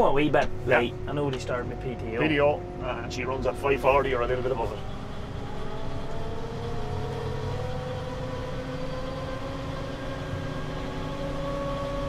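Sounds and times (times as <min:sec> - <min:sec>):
driveline whine rising in pitch: 0:00.0 - 0:12.0
tractor engine hum: 0:00.0 - 0:12.0.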